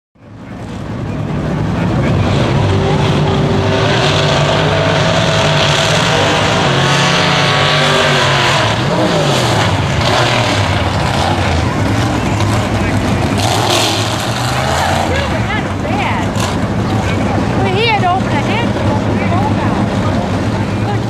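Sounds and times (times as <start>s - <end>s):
drag racing engines running loud: 0.2s - 21.0s.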